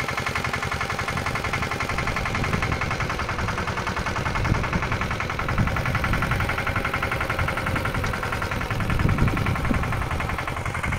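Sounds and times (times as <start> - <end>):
diesel tractor engine running: 0.0 - 10.9.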